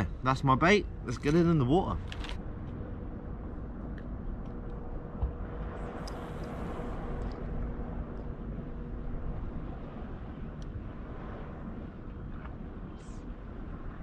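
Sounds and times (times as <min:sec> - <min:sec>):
faint steady hum: 0:00.0 - 0:14.0
wind rumble on microphone: 0:00.0 - 0:14.0.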